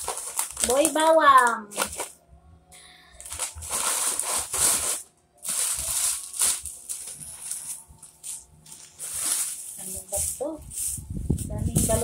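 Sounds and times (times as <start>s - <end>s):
plastic wrappers crinkling: 0.0s - 2.2s, 3.1s - 12.0s.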